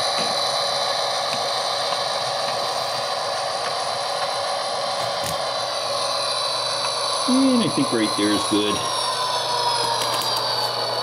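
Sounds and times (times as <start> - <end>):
diesel engine sound from small speaker: 0.0 - 11.0.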